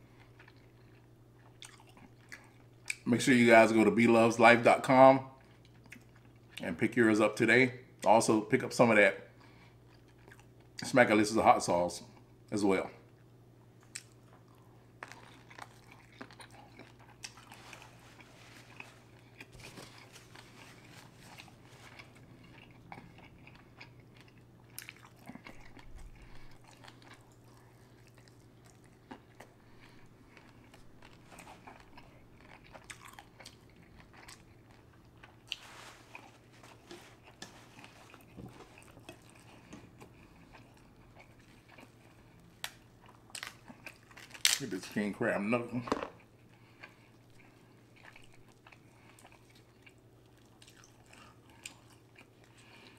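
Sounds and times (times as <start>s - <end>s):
chewing and biting: 0.1s - 3.0s, 5.4s - 6.6s, 13.1s - 44.7s, 46.1s - 52.9s.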